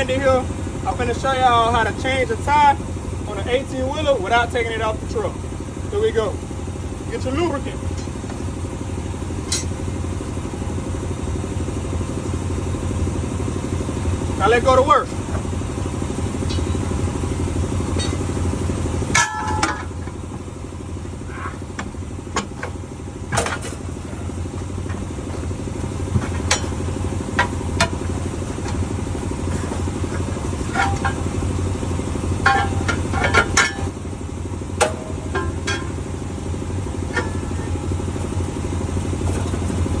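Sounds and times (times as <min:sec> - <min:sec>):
tire tools clanking on metal: 0:00.0 - 0:40.0
truck engine idling: 0:00.0 - 0:40.0.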